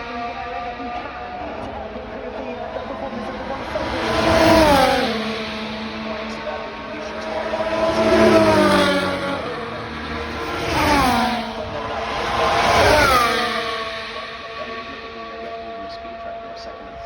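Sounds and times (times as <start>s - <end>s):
race cars passing at high revs: 0.0s - 17.0s.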